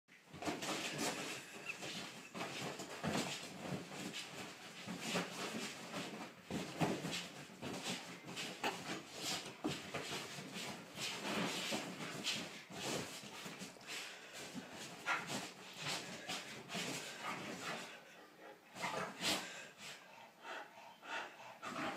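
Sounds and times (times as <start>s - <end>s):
rustling of bedding: 0.1s - 18.1s, 18.7s - 20.1s
paws thumping on mattress: 0.3s - 17.9s.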